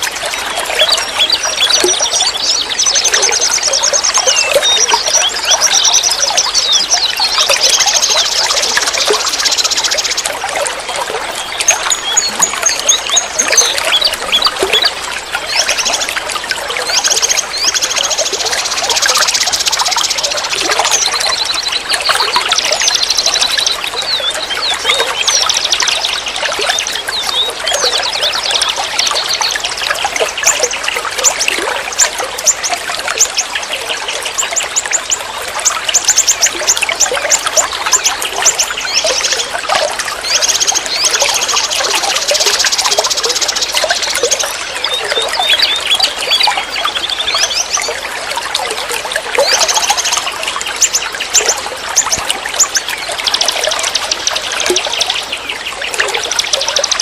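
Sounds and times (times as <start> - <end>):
birds singing: 0.0 - 57.0
stream water trickling: 0.0 - 57.0.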